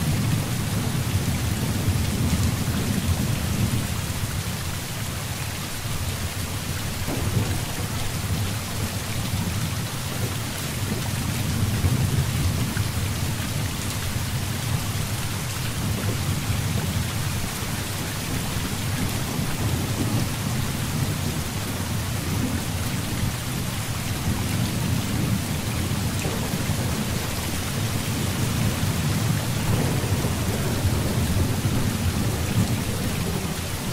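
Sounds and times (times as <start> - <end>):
heavy rain: 0.0 - 33.9
low rumble of thunder: 0.0 - 33.9.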